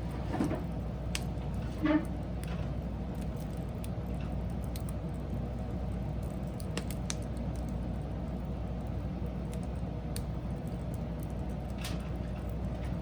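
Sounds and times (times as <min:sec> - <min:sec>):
low rumble of flames: 0:00.0 - 0:13.0
wood crackling and popping: 0:00.0 - 0:13.0.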